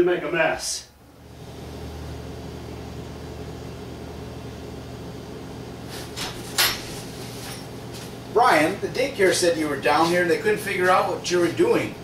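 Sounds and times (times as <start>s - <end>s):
freezers humming: 0.0s - 12.0s.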